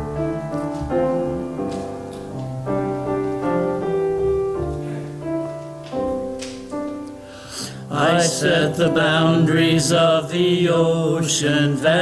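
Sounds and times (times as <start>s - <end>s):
keyboard playing slow chords: 0.0s - 12.0s.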